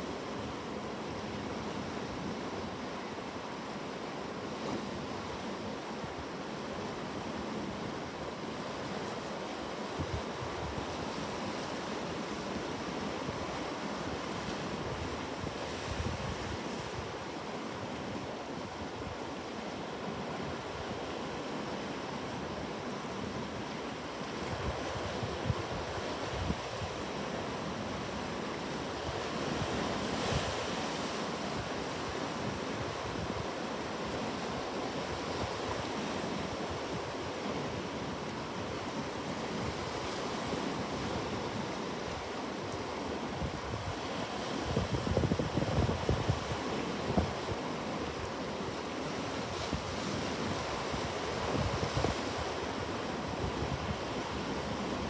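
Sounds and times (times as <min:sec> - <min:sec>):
ocean surf washing ashore: 0:00.0 - 0:55.0.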